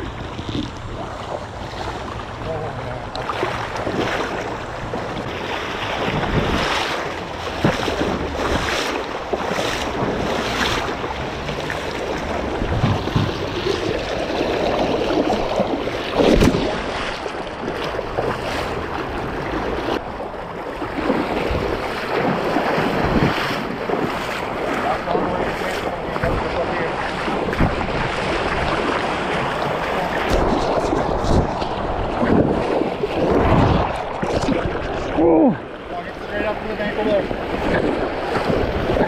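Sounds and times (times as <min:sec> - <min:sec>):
person wading splashes: 0:00.0 - 0:39.0
river water over stones: 0:00.0 - 0:39.0
wind buffeting microphone: 0:00.0 - 0:39.0.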